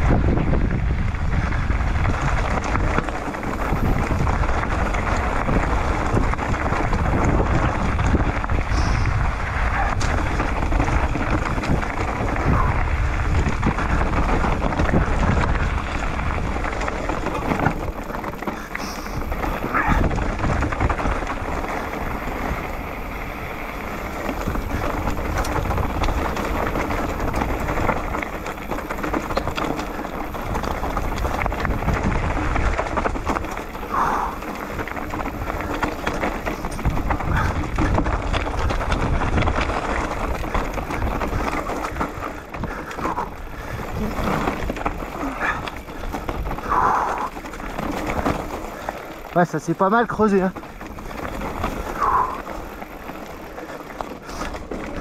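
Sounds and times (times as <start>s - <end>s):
bike tyres rattling over rocks: 0.0s - 55.0s
wind buffeting microphone: 0.0s - 55.0s.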